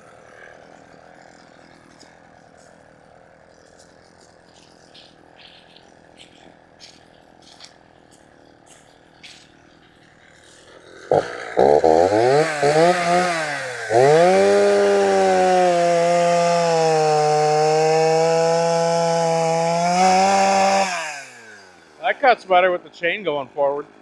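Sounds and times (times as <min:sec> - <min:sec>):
chainsaw revving and cutting wood: 0:00.0 - 0:24.0.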